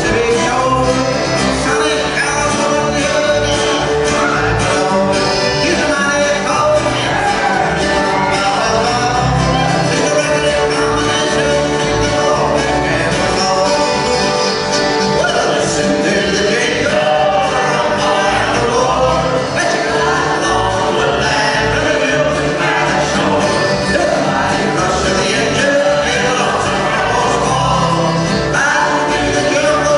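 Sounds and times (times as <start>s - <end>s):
accordion: 0.0s - 29.9s
acoustic guitars: 0.0s - 29.9s
men singing together: 0.0s - 29.9s.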